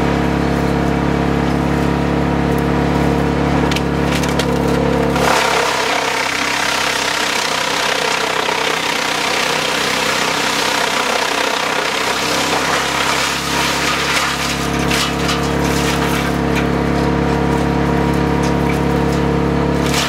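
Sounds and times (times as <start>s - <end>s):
machine drive humming: 0.0s - 20.0s
wood chipper crackling: 0.0s - 20.0s
sharp cracks of wood: 3.7s - 20.0s.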